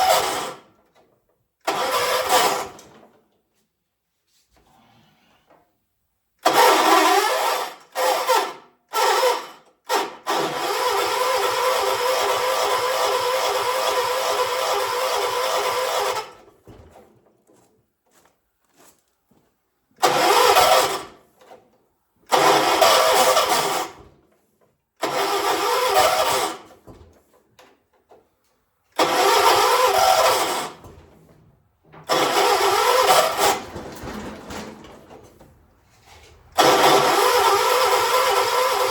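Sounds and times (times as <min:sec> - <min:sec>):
tractor engine cranking: 0:00.0 - 0:03.2, 0:06.4 - 0:17.6, 0:20.0 - 0:24.4, 0:25.0 - 0:38.9.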